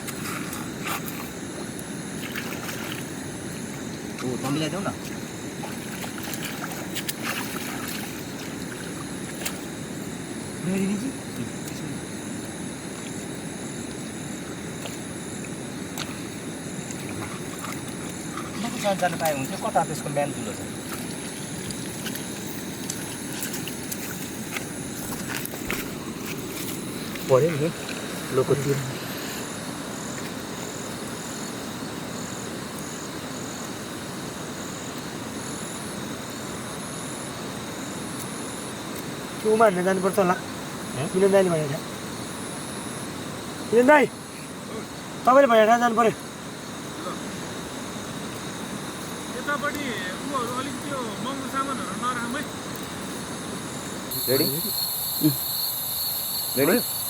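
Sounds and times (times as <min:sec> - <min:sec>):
flowing river water: 0:00.0 - 0:54.6
night insects droning: 0:00.0 - 0:57.0.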